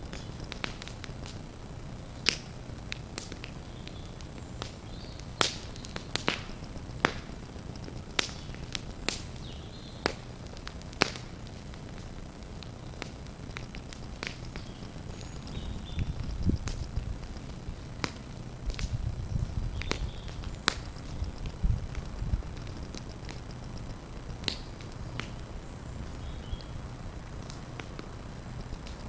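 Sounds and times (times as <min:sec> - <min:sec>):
burning thatch crackling and popping: 0:00.0 - 0:29.0
low rushing fire noise: 0:00.0 - 0:29.0.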